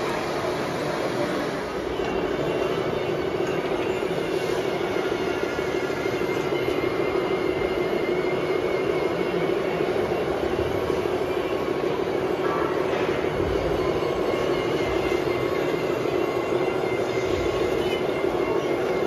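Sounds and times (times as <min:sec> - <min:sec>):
faint high whine: 0:00.0 - 0:19.0
model machine engine drone: 0:00.0 - 0:19.0.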